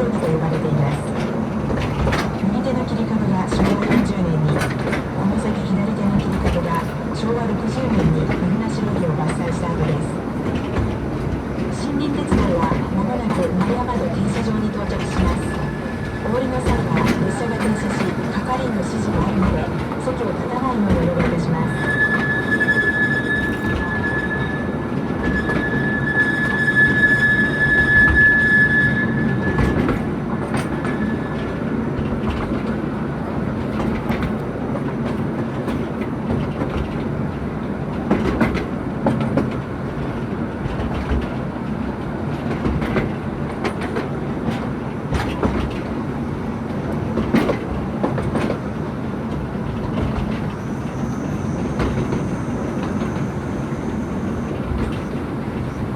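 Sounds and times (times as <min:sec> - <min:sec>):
train rumble: 0:00.0 - 0:55.9.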